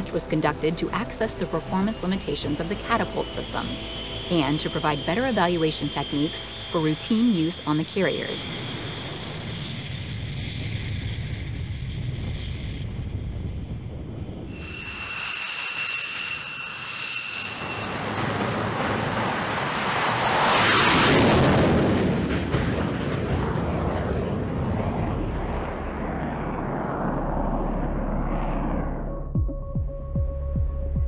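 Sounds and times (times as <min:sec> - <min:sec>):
jet engine whine and roar: 0:00.0 - 0:29.1.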